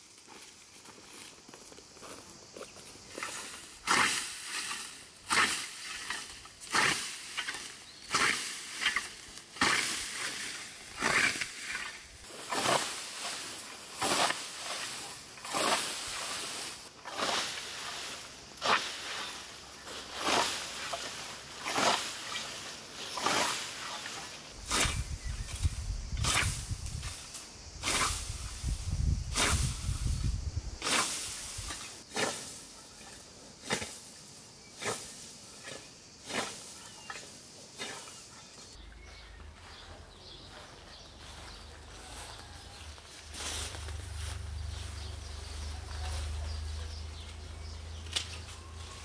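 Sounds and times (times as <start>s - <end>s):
scythe swishing through grass: 3.1s - 38.8s, 41.2s - 49.0s.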